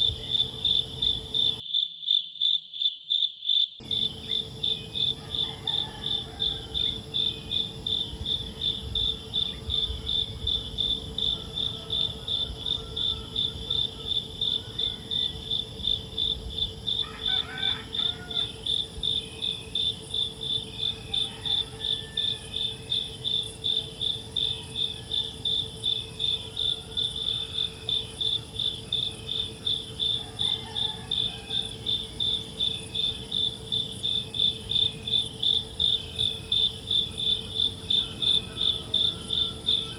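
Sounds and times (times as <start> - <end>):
steady low hum: 0.0 - 1.6, 3.8 - 39.9
insects chirping: 0.0 - 39.9.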